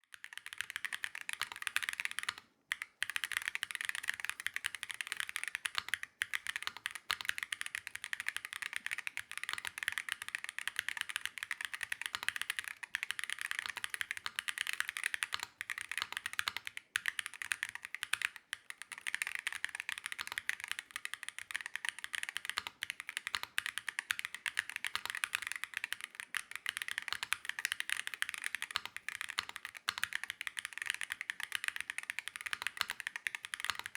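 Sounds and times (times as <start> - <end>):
mechanical keyboard typing: 0.1 - 33.9.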